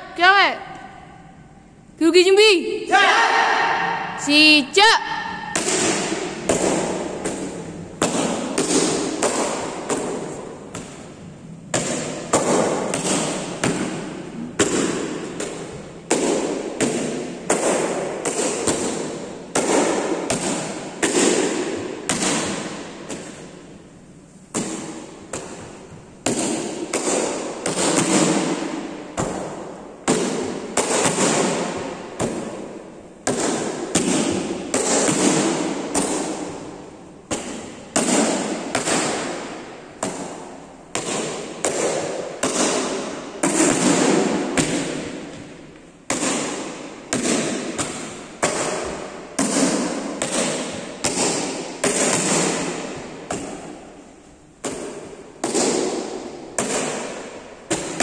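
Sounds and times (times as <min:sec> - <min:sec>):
bare foot slapping kick paddles: 0:05.5 - 0:23.7, 0:24.5 - 0:58.0.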